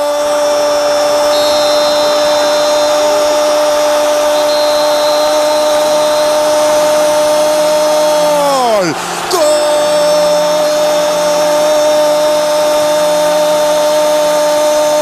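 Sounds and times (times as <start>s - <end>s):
stadium crowd noise: 0.0s - 15.0s
commentator's drawn-out cry: 2.4s - 15.0s.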